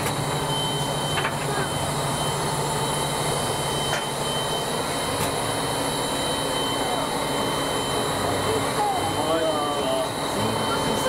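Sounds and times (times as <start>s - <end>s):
high whine: 0.0s - 11.0s.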